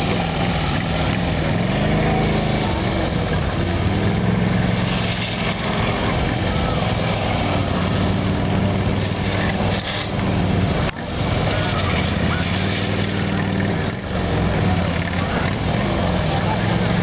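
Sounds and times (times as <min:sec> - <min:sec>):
motorcycle engine under throttle: 0:00.0 - 0:17.0.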